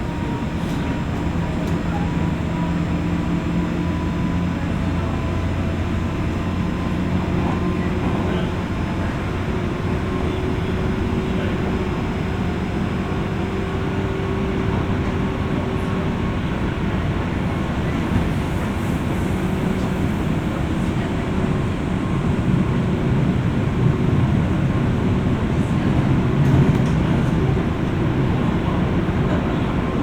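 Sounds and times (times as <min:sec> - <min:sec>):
train wheels and motors rumbling: 0:00.0 - 0:30.0.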